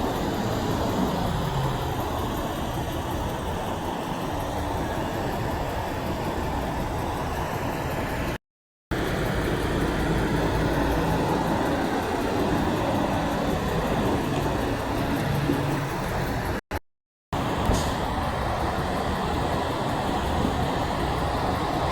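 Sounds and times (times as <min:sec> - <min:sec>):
road traffic passing: 0:00.0 - 0:16.6, 0:17.4 - 0:21.9.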